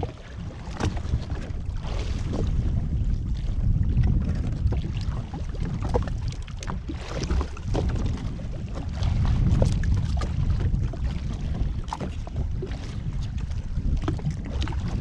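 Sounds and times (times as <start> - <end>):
water splashing against hull: 0.0 - 15.0
wind buffeting microphone: 0.0 - 15.0.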